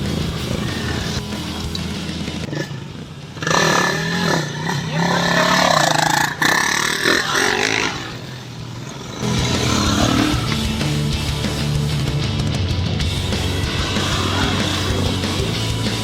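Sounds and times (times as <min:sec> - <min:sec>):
dirt bike engines revving: 0:00.0 - 0:16.0
people's voices: 0:00.0 - 0:16.0.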